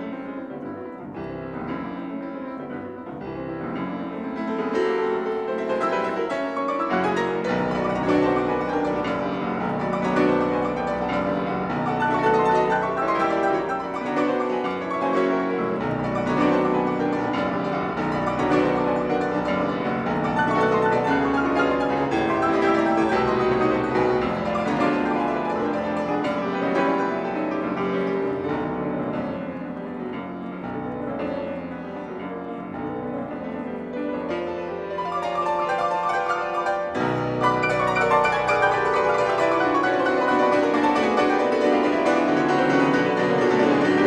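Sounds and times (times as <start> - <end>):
two pianos playing classical piece: 0.0 - 44.0.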